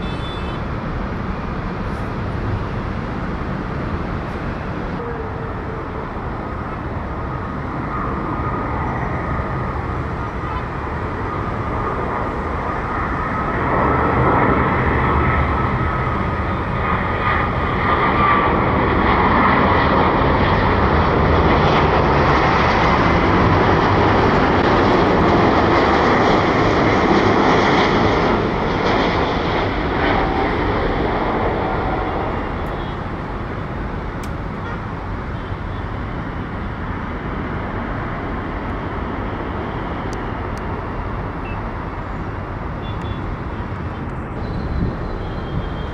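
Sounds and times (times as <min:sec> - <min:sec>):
jet airliner passing: 0:00.0 - 0:45.9.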